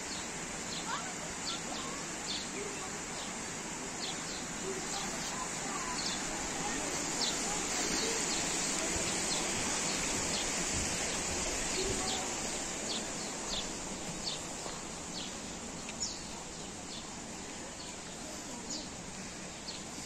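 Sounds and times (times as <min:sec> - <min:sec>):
rushing outdoor noise: 0:00.0 - 0:20.0
small birds chirping: 0:00.0 - 0:20.0.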